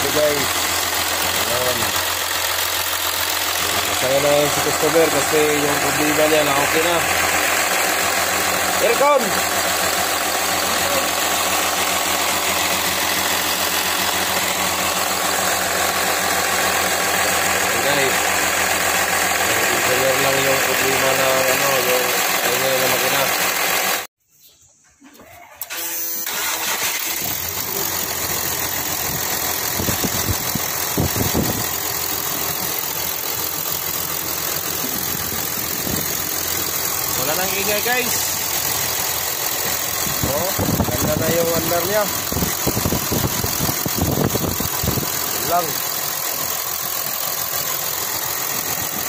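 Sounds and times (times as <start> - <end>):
diesel engine idling: 0.0 - 24.1, 26.3 - 49.0.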